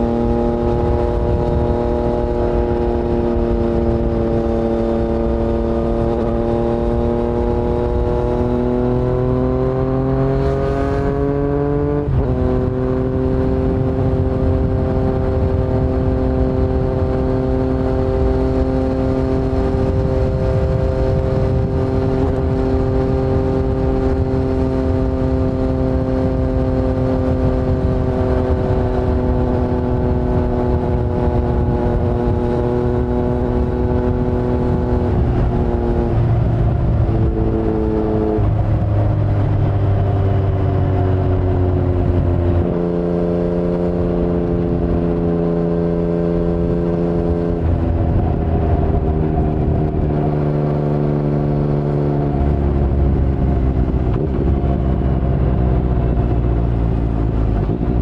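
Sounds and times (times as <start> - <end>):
motorcycle engine with gear changes: 0.0 - 58.0.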